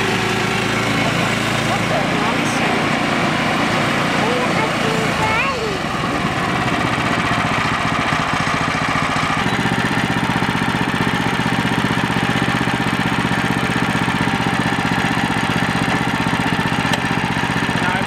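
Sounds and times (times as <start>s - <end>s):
gasoline engine running: 0.0s - 18.0s.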